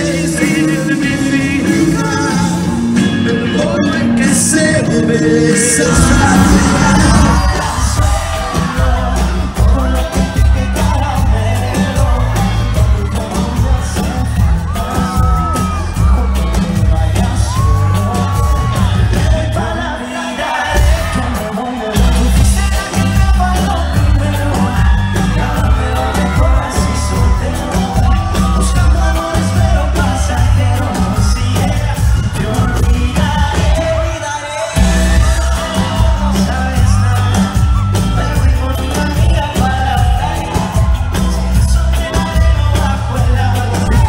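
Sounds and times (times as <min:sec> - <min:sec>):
heavy bass beat: 0:00.0 - 0:19.8, 0:20.7 - 0:34.2, 0:34.8 - 0:44.0
man singing: 0:00.0 - 0:44.0.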